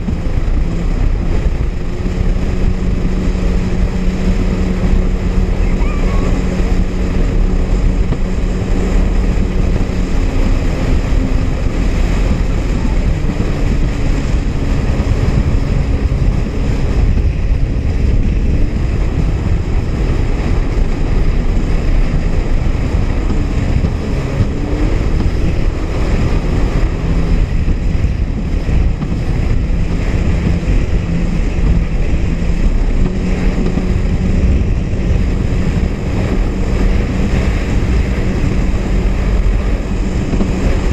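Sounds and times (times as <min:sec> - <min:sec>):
jet ski engine running: 0:00.0 - 0:40.9
water rushing against hull: 0:00.0 - 0:40.9
wind buffeting microphone: 0:00.0 - 0:40.9.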